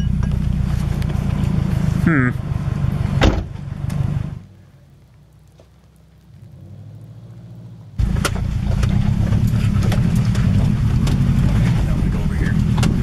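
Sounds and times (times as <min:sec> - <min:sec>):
car engine and tyre rumble: 0:00.0 - 0:13.0
distant engine hum: 0:00.0 - 0:13.0.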